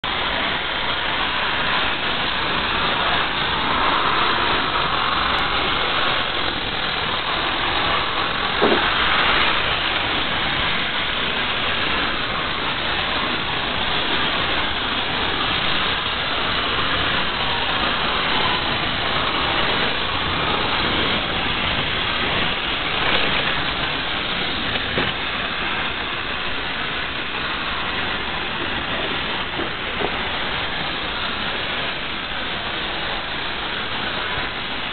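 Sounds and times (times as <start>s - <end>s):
toy trains running on wooden track: 0.1s - 34.9s.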